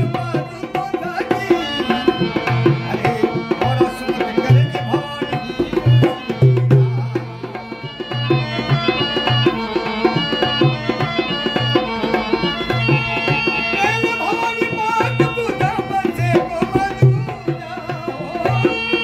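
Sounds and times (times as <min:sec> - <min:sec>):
hand drum beating: 0:00.0 - 0:19.0.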